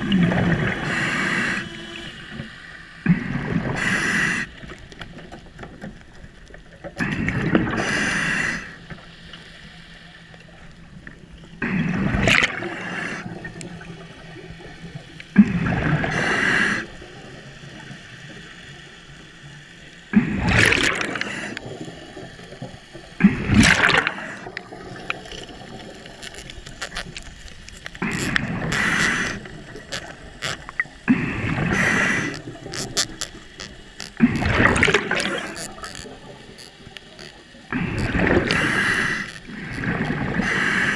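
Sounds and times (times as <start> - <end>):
quiet underwater background: 0.0 - 40.9.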